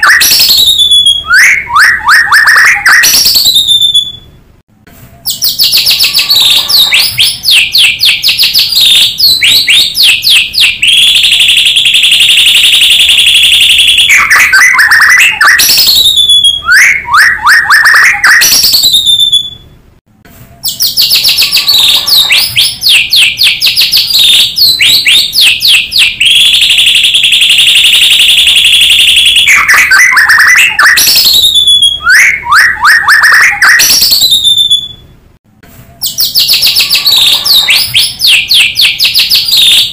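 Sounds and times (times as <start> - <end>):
songbird singing trills and whistles: 0.0 - 4.3, 5.2 - 11.4, 12.2 - 19.7, 20.6 - 27.0, 28.7 - 35.1, 36.0 - 39.9.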